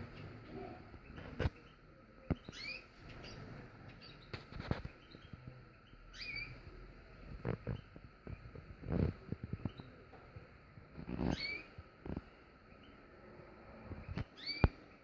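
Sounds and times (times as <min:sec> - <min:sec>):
canary chirping: 0:00.0 - 0:15.0.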